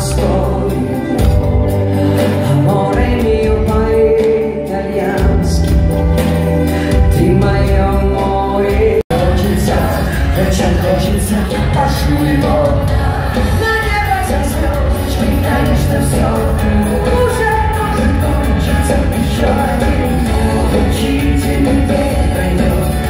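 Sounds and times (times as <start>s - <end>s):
woman singing: 0.0s - 5.8s, 6.9s - 23.0s
live pop band playing: 0.0s - 23.0s.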